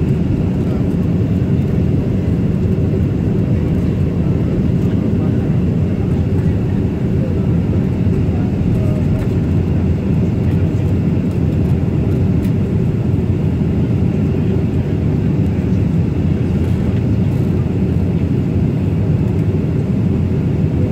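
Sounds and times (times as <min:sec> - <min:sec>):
airliner cabin low rumble: 0:00.0 - 0:20.9.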